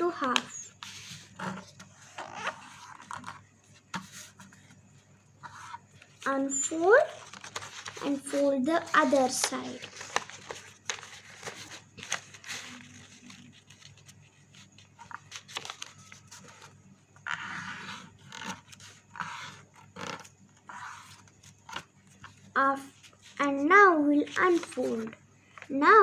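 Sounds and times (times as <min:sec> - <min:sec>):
paper being folded and creased: 0:00.0 - 0:04.8, 0:05.4 - 0:25.8.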